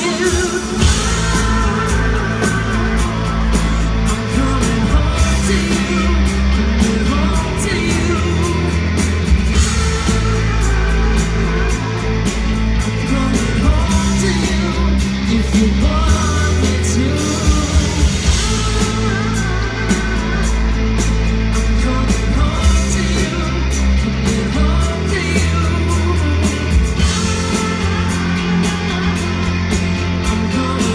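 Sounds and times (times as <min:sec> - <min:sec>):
person singing: 0:00.0 - 0:30.9
rock band playing live: 0:00.0 - 0:30.9
steady drum beat: 0:00.0 - 0:30.9.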